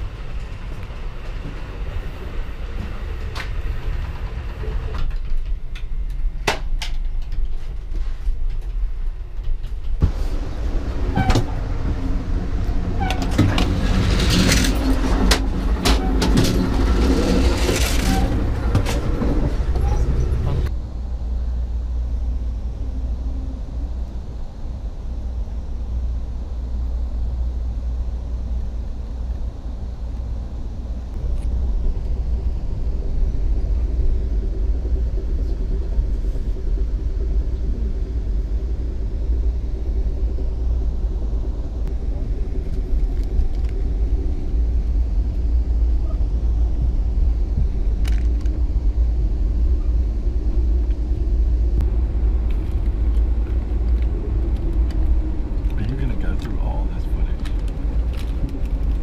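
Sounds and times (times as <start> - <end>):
faint hum: 0.0 - 59.0
train carriage rumble: 0.0 - 59.0.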